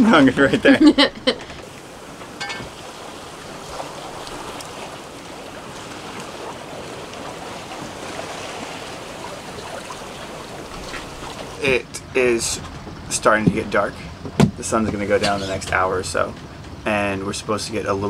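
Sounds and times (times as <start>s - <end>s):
waves washing along a hull: 0.0s - 18.0s.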